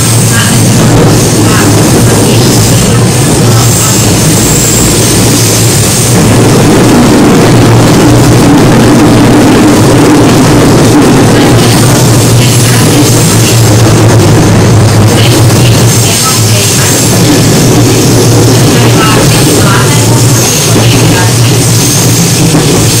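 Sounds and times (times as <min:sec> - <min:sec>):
train motor hum and wheel noise: 0:00.0 - 0:23.0.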